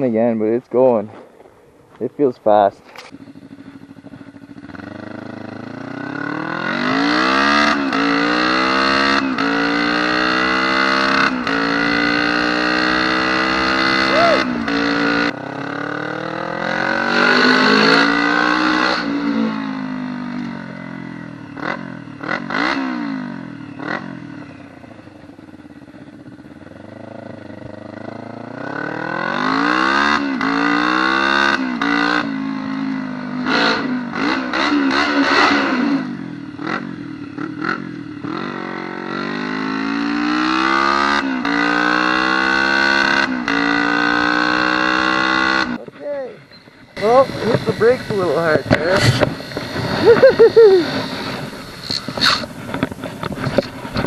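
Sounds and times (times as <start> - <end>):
motorcycle engine revving hard: 3.1 - 45.8, 47.0 - 54.0.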